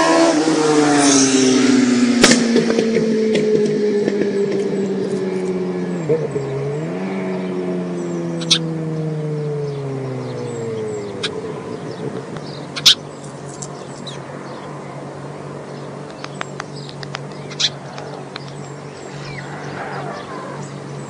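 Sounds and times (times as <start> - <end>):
low traffic hum: 0.0 - 21.0
vehicle passing: 0.0 - 21.0.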